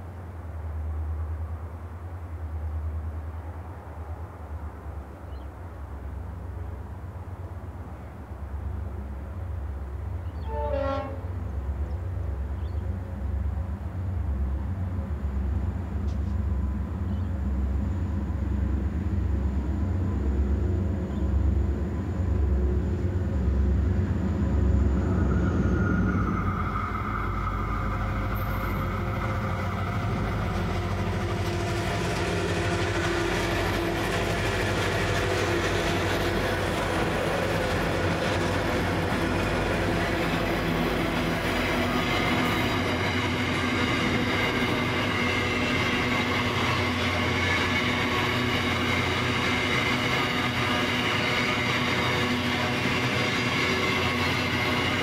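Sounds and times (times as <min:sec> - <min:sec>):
train wheels on rails: 0:00.0 - 0:55.0
diesel locomotive engine throb: 0:08.4 - 0:55.0.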